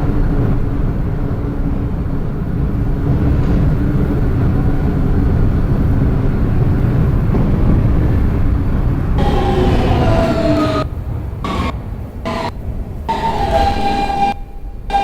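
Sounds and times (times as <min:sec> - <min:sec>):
constant hum: 0:00.0 - 0:15.0
subway car low rumble: 0:00.0 - 0:15.0.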